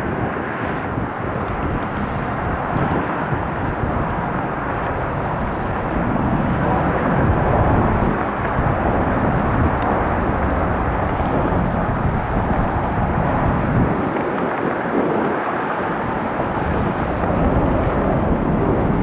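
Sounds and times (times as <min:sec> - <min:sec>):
jet engines departing: 0:00.0 - 0:19.0.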